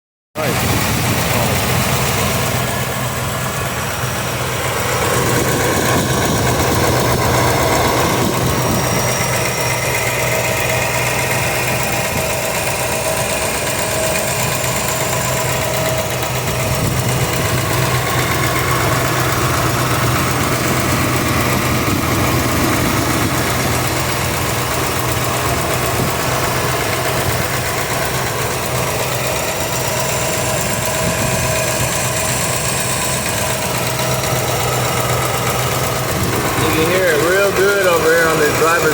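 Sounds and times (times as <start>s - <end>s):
car engine idling: 0.4s - 38.9s
engine ticking: 0.4s - 38.9s.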